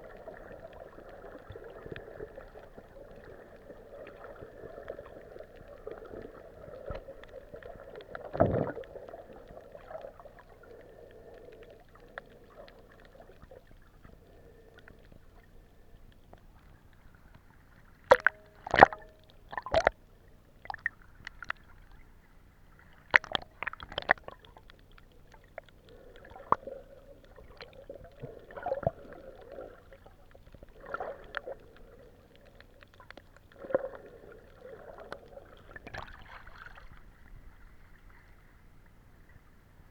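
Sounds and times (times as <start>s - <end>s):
water gurgling: 0.0s - 15.9s, 18.0s - 20.0s, 22.8s - 38.2s.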